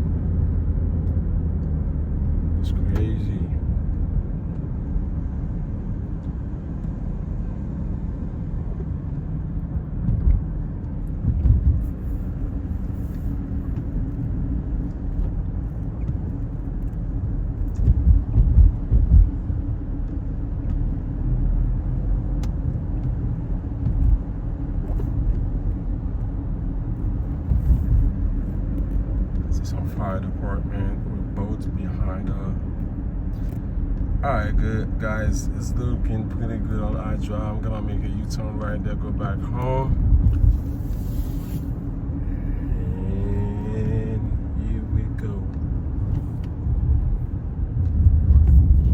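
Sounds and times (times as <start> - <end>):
car road and engine rumble: 0.0 - 48.9.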